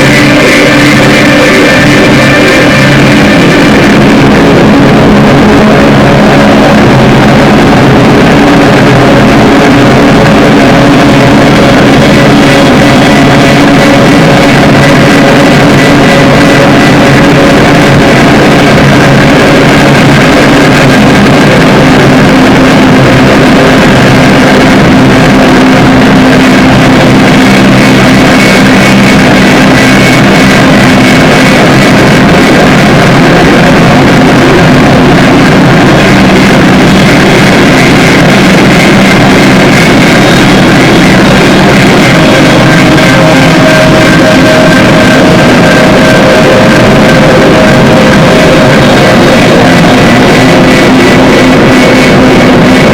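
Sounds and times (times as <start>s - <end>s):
distorted drone music: 0.0s - 52.9s.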